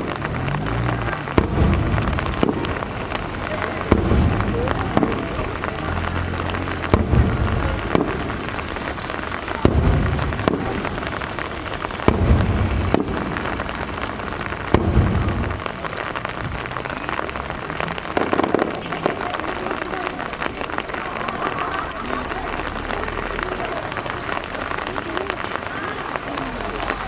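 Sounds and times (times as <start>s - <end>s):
fireworks bursting: 0.0s - 27.0s
rain falling: 0.0s - 27.0s.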